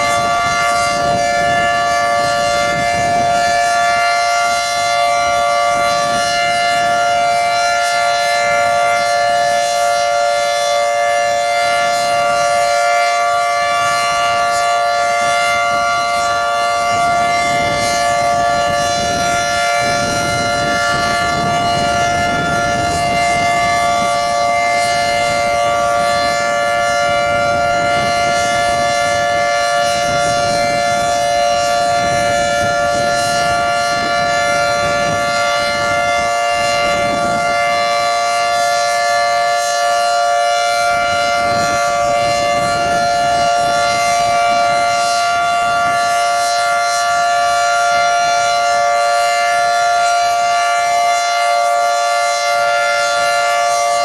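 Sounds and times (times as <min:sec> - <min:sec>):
two-tone siren steady alert: 0:00.0 - 0:54.0.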